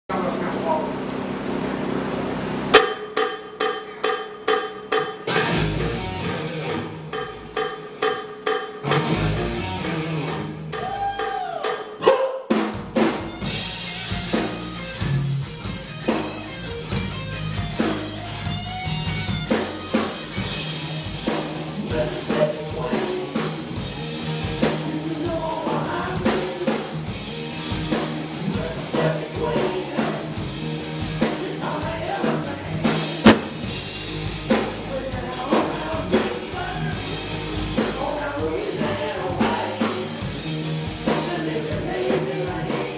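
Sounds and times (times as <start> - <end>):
drum kit: 0.1 - 42.9
electric guitars: 5.2 - 7.6, 8.8 - 11.2, 13.0 - 42.9.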